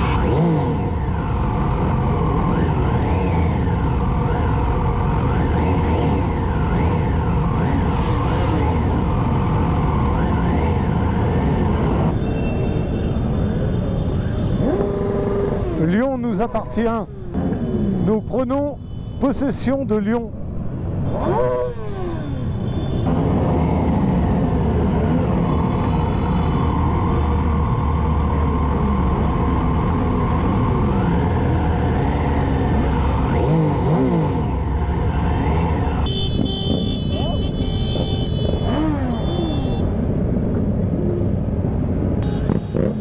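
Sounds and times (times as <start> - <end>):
motorcycle engines droning: 0.0 - 43.0
motorcycles revving: 0.0 - 43.0.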